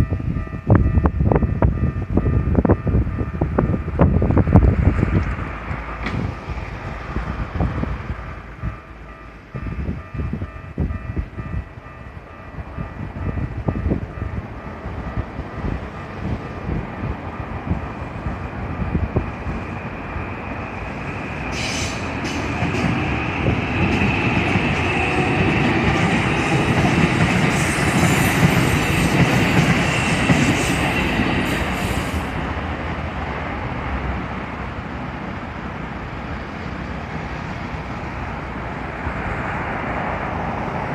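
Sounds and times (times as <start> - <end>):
electric train passing: 0.0 - 40.9.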